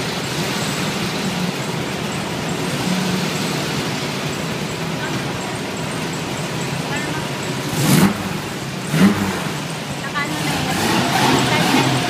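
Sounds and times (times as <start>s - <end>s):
car engines idling: 0.0s - 12.0s
traffic noise: 0.0s - 12.0s.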